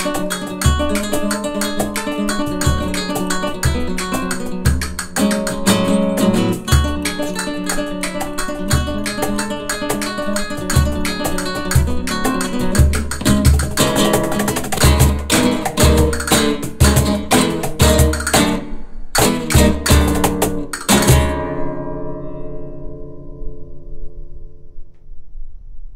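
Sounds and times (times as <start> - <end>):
low cajon hits: 0.0 - 21.6
strummed flamenco guitar: 0.0 - 24.6.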